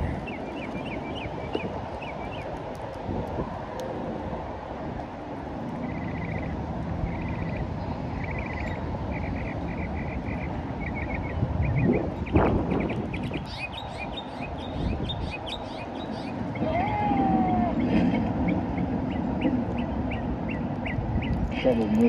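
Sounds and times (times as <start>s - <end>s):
birds chirping in trills: 0.0s - 2.5s, 5.8s - 22.0s
low outdoor rumble: 0.0s - 22.0s.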